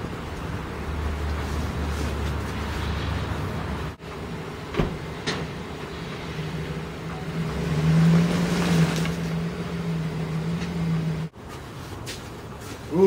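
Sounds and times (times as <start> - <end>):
pickup truck engine straining: 0.0 - 11.4.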